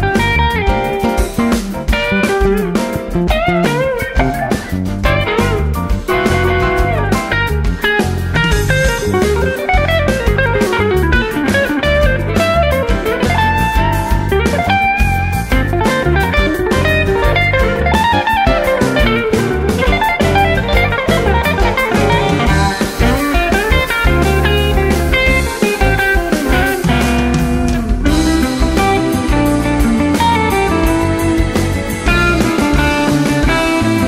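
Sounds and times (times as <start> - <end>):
electric guitar lines: 0.0 - 34.0
low bass notes: 0.0 - 34.0
steady drum beat: 0.0 - 34.0.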